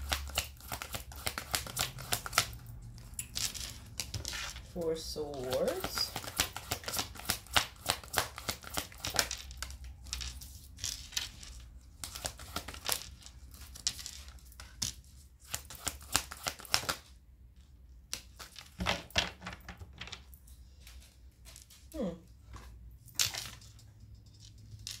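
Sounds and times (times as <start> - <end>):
cards shuffled and dealt on desk: 0.0 - 23.8.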